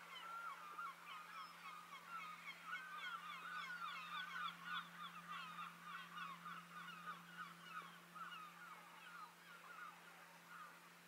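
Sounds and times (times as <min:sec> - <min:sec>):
flock of birds calling: 0:00.0 - 0:10.9
steady low hum: 0:00.0 - 0:11.0.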